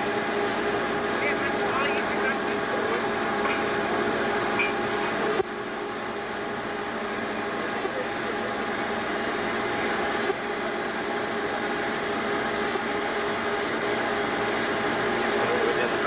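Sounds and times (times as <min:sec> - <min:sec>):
mechanical drone with hum: 0:00.0 - 0:16.0.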